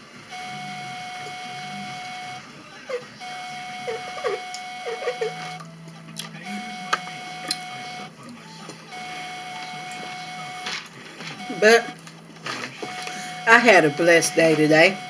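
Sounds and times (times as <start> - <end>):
high electronic whine: 0.0 - 15.0.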